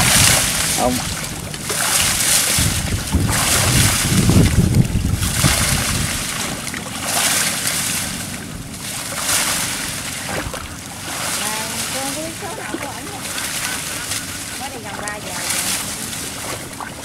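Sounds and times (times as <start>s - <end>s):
water sloshing around boat: 0.0s - 17.0s
wind buffeting microphone: 0.0s - 17.0s.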